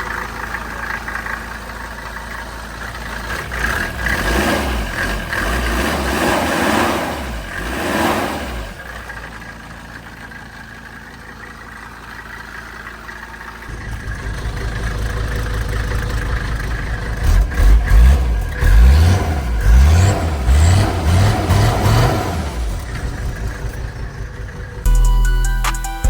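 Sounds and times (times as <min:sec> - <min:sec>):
diesel engine idling and revving: 0:00.0 - 0:26.0.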